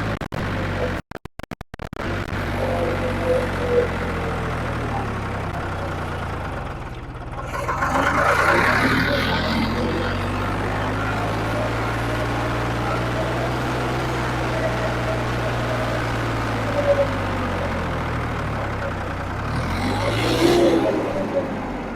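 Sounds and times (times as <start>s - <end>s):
tractor diesel engine idling: 2.0s - 21.9s.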